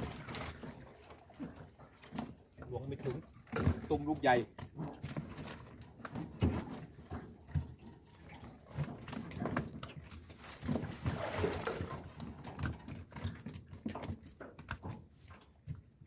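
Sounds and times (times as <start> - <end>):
knocks and bumps in a boat: 0.0 - 16.0
water sloshing: 0.0 - 16.0.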